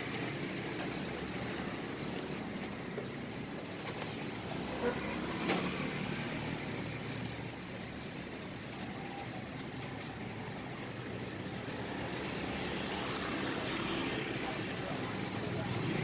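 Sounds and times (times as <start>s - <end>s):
traffic rumble and hiss: 0.0s - 16.0s.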